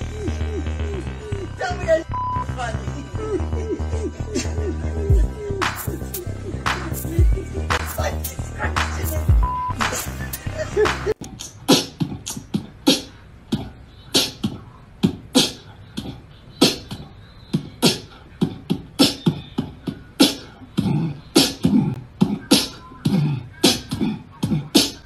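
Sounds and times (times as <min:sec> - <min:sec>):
beatboxed percussion beat: 0:00.0 - 0:01.6, 0:03.0 - 0:25.0.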